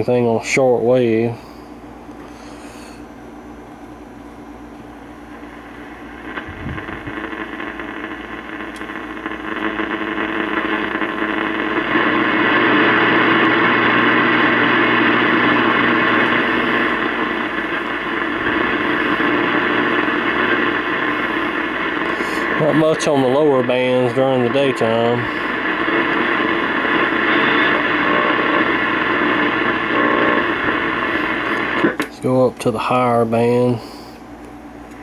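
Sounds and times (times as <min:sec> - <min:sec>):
radio static hiss: 0:05.1 - 0:34.3.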